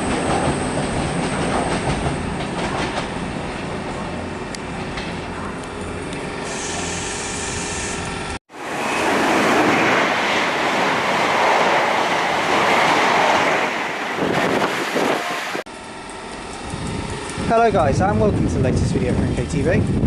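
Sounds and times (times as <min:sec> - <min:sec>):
train humming with held tones: 0:00.0 - 0:20.0
train passing with rushing noise: 0:00.0 - 0:20.0.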